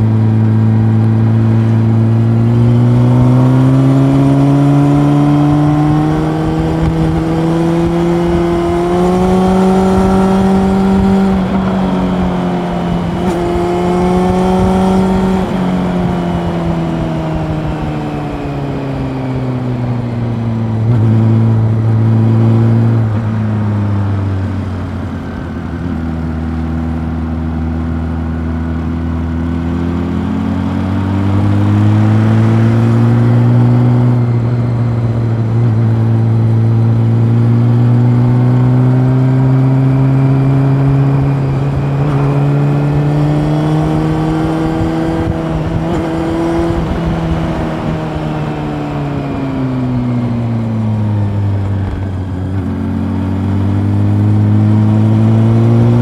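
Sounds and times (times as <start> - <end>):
motorcycle engine while riding: 0.0 - 56.0.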